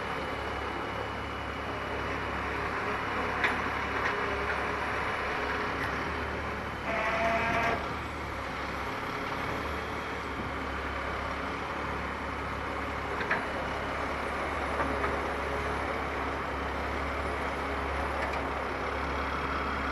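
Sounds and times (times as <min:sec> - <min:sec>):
excavator running: 0:00.0 - 0:19.9.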